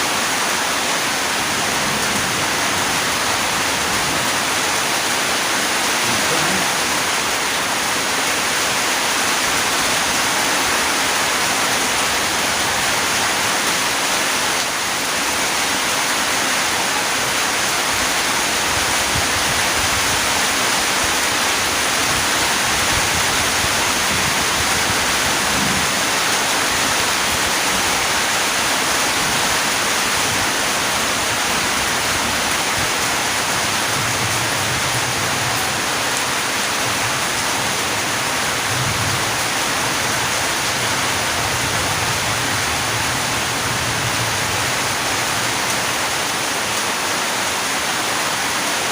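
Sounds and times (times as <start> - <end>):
rain falling: 0.0 - 48.9.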